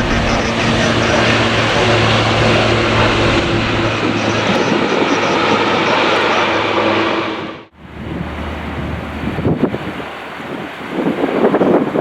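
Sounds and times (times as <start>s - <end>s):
low hum: 0.0s - 10.6s
jet airliner engines: 0.0s - 12.0s.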